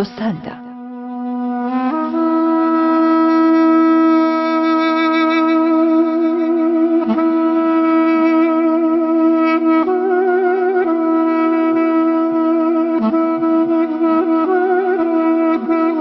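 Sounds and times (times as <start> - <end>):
woodwind holding long notes: 0.0 - 16.0.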